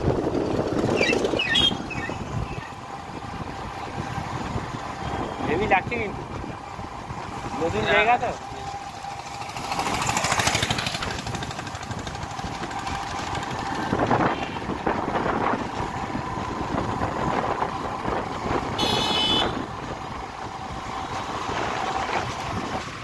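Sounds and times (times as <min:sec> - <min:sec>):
road and wind noise: 0:00.0 - 0:23.0
vehicle motor hum: 0:00.0 - 0:23.0.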